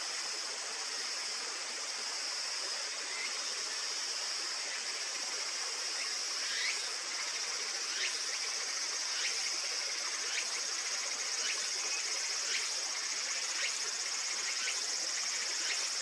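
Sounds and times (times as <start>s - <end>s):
insects trilling drone: 0.0s - 16.0s
short insect chirp: 0.0s - 16.0s.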